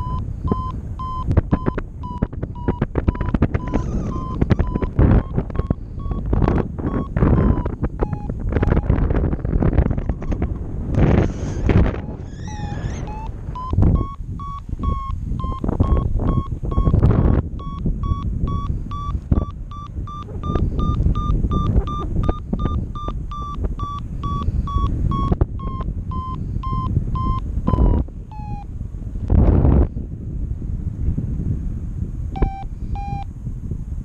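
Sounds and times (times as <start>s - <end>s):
variometer short beeps: 0.0s - 28.7s, 32.4s - 33.3s
wind gusts on microphone: 0.0s - 34.0s.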